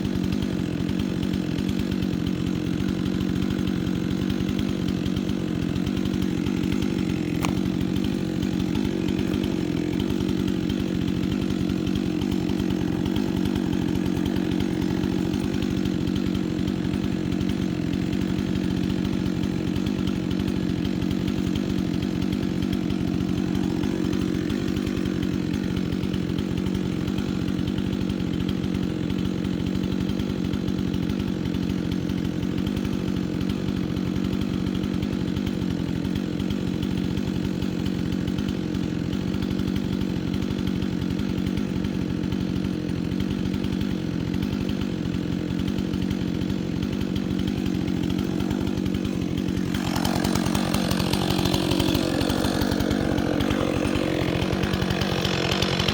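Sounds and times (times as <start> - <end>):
chainsaw engine running: 0.0 - 55.9.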